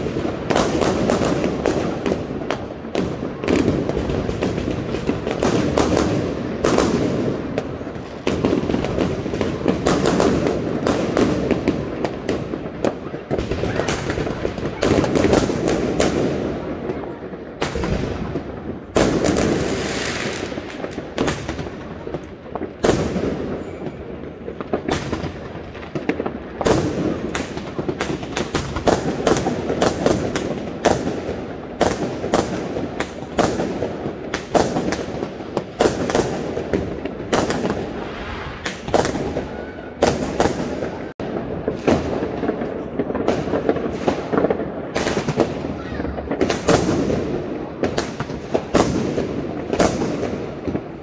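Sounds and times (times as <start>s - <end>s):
firework bangs: 0.0s - 51.0s
rumble of distant fireworks: 0.0s - 51.0s.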